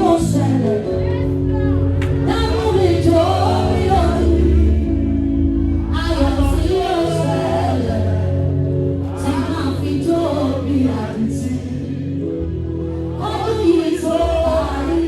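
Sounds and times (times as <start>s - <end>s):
bass: 0.0s - 15.0s
keyboard chords: 0.0s - 15.0s
person singing gospel: 0.0s - 15.0s.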